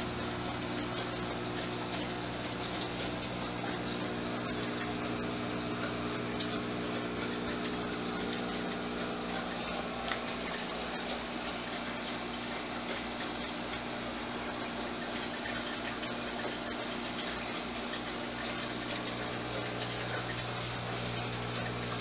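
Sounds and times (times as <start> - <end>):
low motor hum: 0.0 - 22.0
water splashing and bubbling: 0.0 - 22.0.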